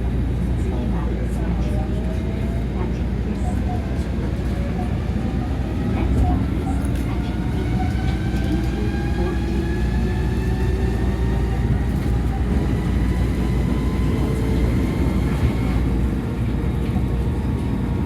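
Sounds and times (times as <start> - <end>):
monorail train rumble: 0.0 - 18.0.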